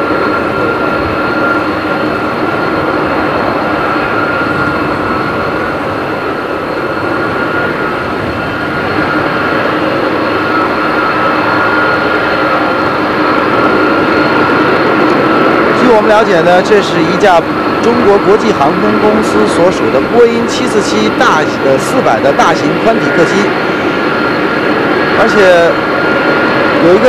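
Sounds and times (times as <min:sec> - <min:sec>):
jet engines rumbling and whining: 0:00.0 - 0:27.0.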